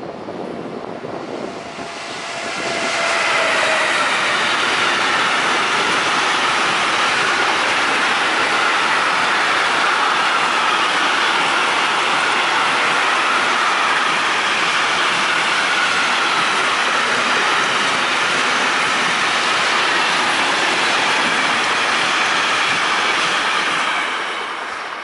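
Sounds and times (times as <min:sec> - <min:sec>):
train wagons rumbling and clattering: 0:00.0 - 0:25.0
locomotives passing: 0:00.6 - 0:24.6.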